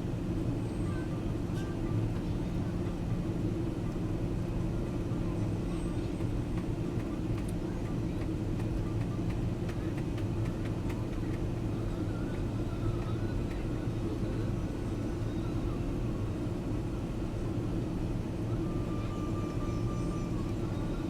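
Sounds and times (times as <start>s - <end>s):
jet engine drone in cabin: 0.0s - 21.0s.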